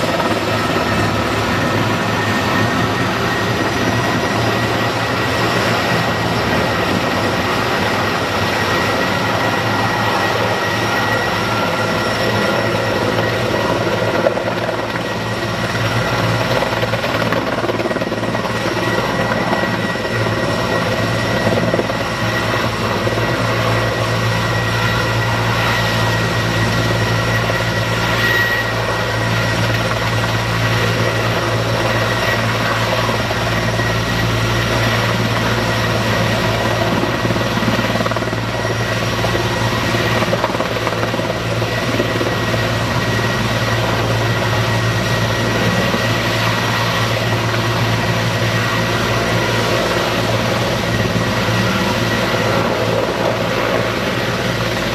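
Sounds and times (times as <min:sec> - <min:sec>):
helicopter rotor hum: 0:00.0 - 0:54.9
high turbine whine: 0:00.0 - 0:54.9.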